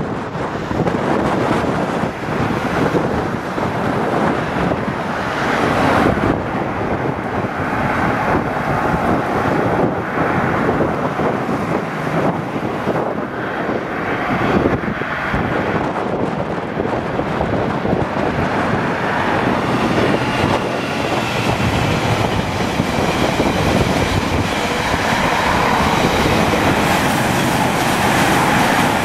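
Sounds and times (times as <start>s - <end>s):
diesel locomotive engine running: 0.0s - 29.0s
wind buffeting microphone: 0.0s - 29.0s.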